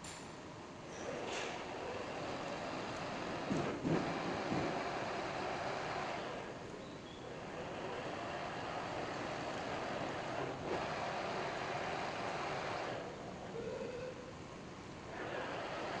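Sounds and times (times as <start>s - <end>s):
metalworking machine: 0.0s - 16.0s.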